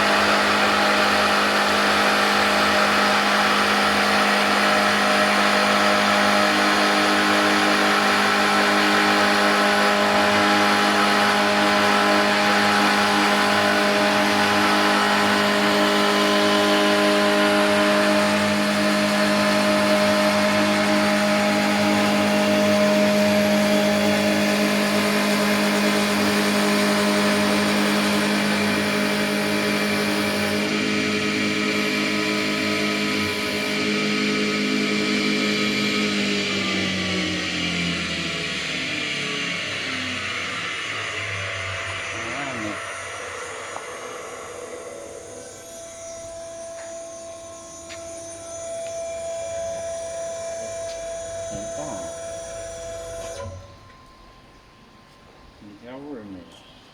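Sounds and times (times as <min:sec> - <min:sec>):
lathe motor humming and whining: 0:00.0 - 0:56.9.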